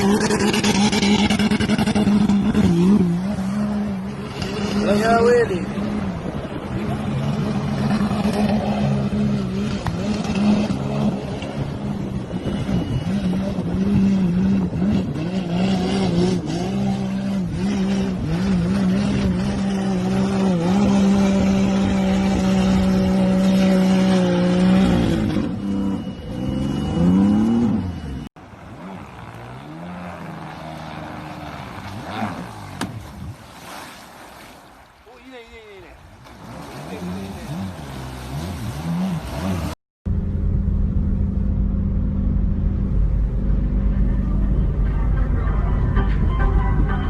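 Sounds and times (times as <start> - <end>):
jet ski engine running: 0.0 - 33.5, 36.2 - 47.0.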